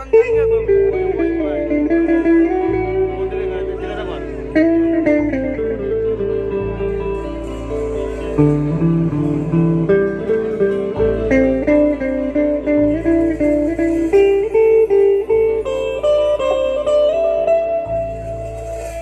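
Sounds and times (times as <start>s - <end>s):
low bass line: 0.0s - 19.0s
plucked guitar melody: 0.0s - 19.0s.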